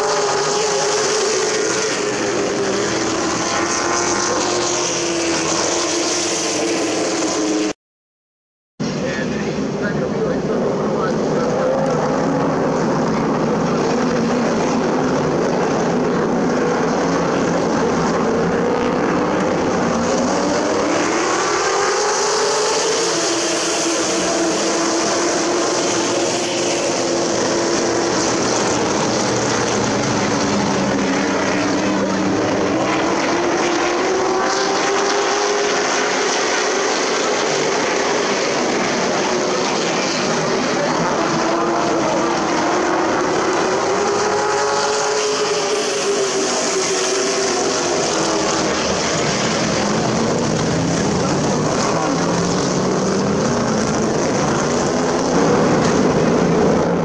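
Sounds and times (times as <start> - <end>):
race truck engines: 0.0 - 7.8, 8.8 - 57.0.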